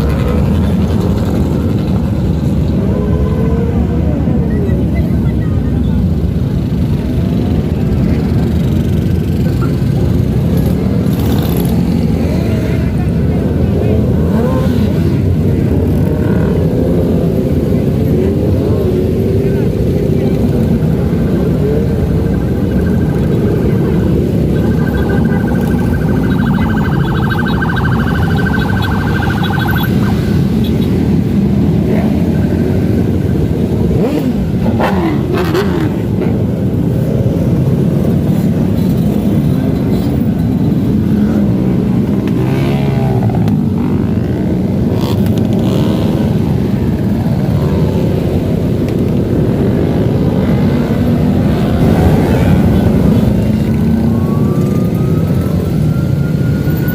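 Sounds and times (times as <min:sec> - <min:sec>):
cars and motorcycles passing: 0:00.0 - 0:56.9.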